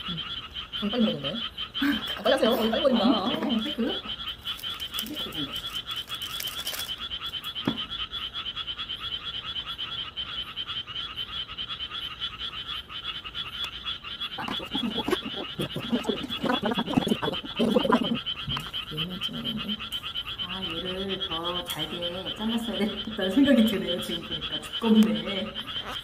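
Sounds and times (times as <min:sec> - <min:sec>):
frogs calling: 0:00.0 - 0:26.0.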